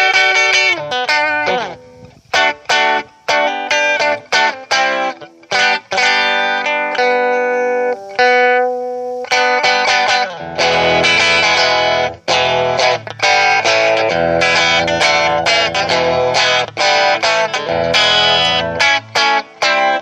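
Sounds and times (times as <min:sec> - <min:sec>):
overdriven electric guitar chords: 0:00.0 - 0:20.0.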